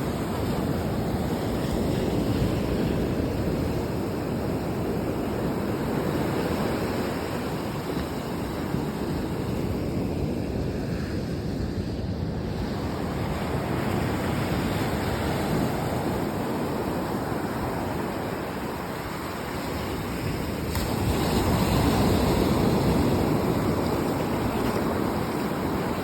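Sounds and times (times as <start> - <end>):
sea waves breaking: 0.0 - 26.0
wind on microphone: 0.0 - 26.0.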